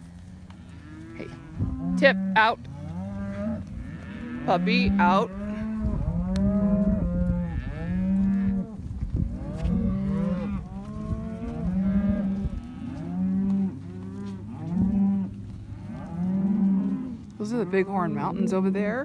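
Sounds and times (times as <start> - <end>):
cattle mooing: 0.0 - 19.0.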